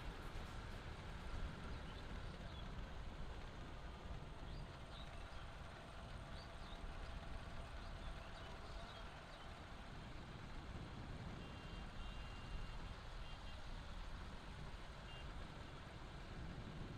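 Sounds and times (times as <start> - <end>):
motorbike road and wind rumble: 0.0 - 16.9.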